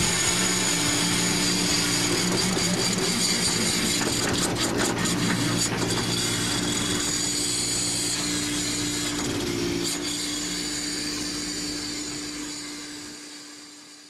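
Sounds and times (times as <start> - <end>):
hydraulic crane humming and hissing: 0.0 - 14.0.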